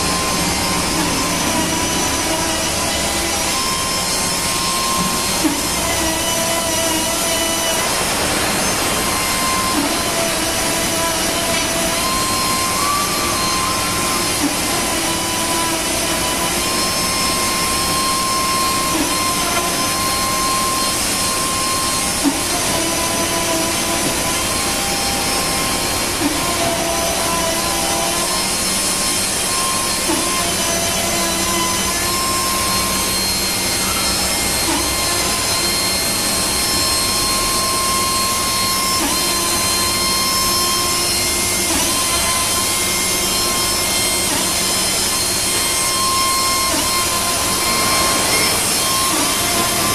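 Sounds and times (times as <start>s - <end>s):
router spindle whine: 0.0s - 49.9s.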